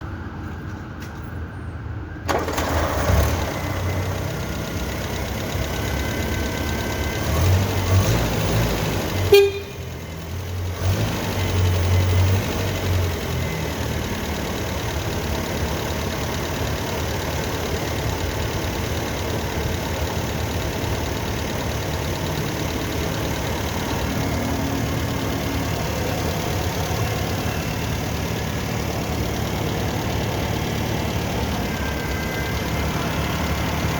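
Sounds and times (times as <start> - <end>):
engine starting and idling: 2.2 - 33.9.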